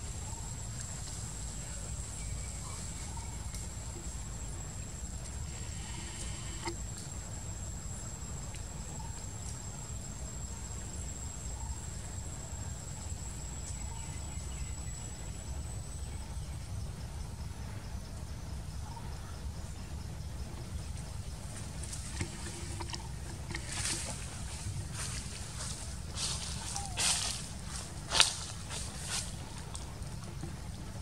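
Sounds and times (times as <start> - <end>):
insect high-pitched drone: 0.0 - 31.0.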